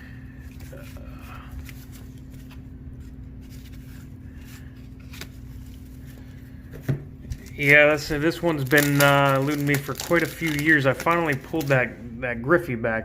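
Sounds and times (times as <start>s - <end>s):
trading cards flipping: 0.4s - 6.4s, 7.2s - 11.9s.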